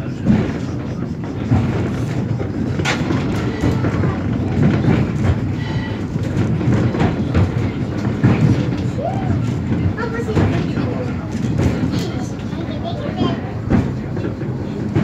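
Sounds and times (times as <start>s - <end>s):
funicular rumbling on rails: 0.0s - 15.0s
wheel and track clicks: 0.0s - 15.0s.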